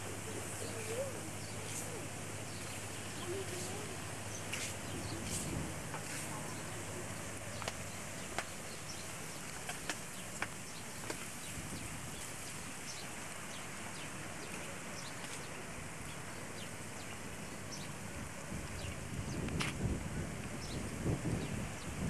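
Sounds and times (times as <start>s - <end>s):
wind buffeting microphone: 0.0s - 13.3s, 13.9s - 22.0s
small birds chirping: 0.0s - 19.9s, 20.5s - 22.0s
steady hiss: 0.0s - 22.0s.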